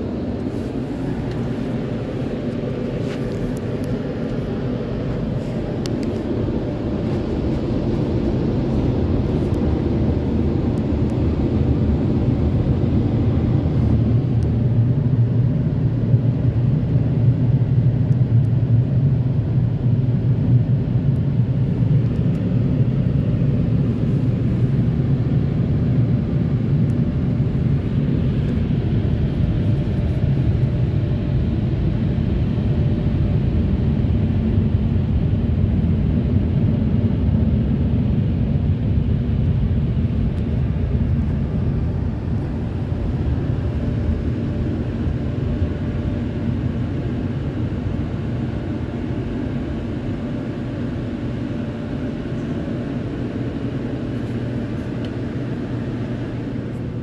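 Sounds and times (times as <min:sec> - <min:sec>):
car wash blower dryers rumbling: 0:00.0 - 0:57.0.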